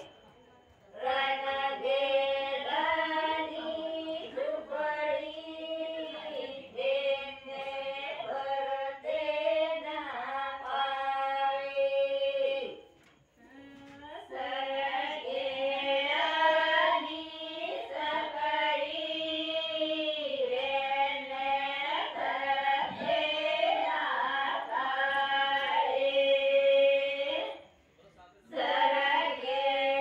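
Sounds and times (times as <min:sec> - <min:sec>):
women singing together: 0:00.0 - 0:27.9, 0:28.5 - 0:30.0.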